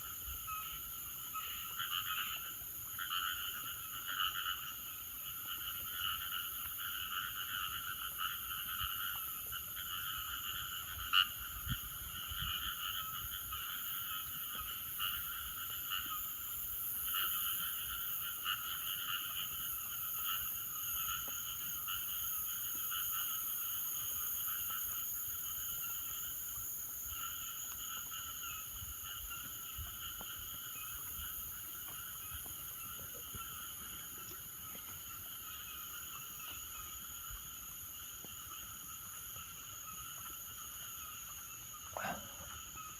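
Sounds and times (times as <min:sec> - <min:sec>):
frogs calling: 0:00.0 - 0:42.9
insects trilling: 0:00.0 - 0:42.9.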